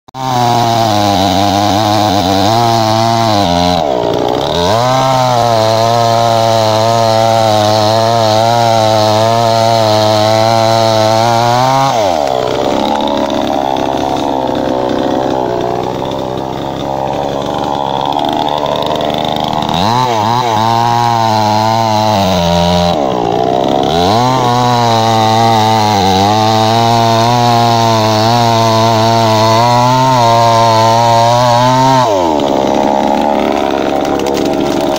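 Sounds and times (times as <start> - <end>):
chainsaw cutting wood: 0.2 - 34.9.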